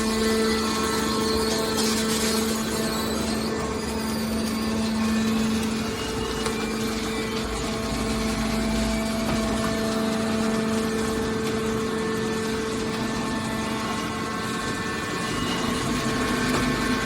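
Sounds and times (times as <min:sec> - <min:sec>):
hydraulic pump humming: 0:00.0 - 0:17.0
machine noise: 0:00.0 - 0:17.0.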